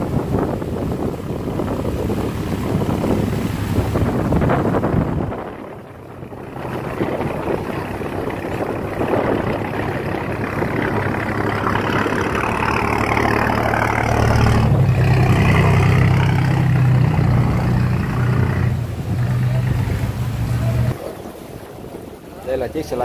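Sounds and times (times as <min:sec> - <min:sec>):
boat engine running: 0:00.0 - 0:22.3.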